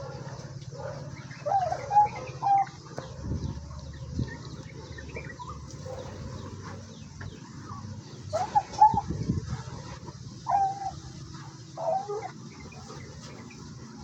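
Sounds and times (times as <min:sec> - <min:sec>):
steady low hum: 0:00.0 - 0:14.0
turkeys and ducks calling: 0:00.0 - 0:14.0.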